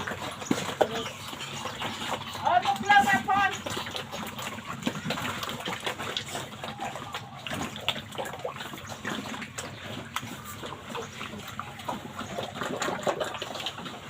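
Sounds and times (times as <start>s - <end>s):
pig slurping and smacking: 0.0s - 14.0s.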